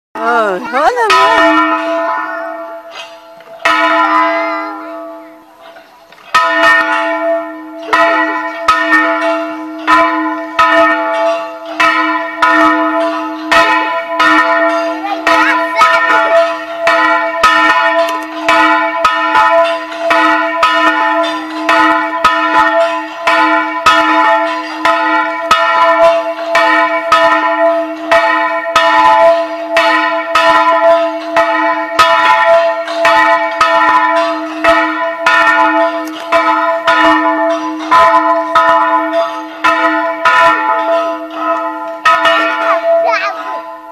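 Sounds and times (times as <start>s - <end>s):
church bells ringing: 0.2s - 43.9s.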